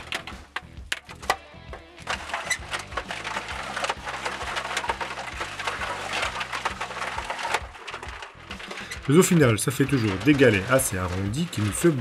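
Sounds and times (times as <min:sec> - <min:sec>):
stones tumbling in mixer drum: 0:00.0 - 0:12.0
concrete mixer motor hum: 0:01.5 - 0:12.0.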